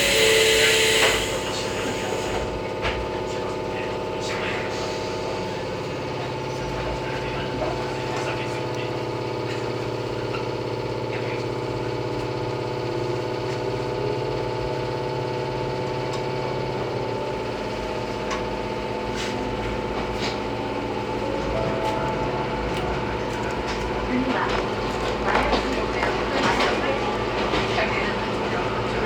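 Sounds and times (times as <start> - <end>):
electric train motors humming: 0.0 - 29.0
low hum of train pulling away: 0.0 - 29.0.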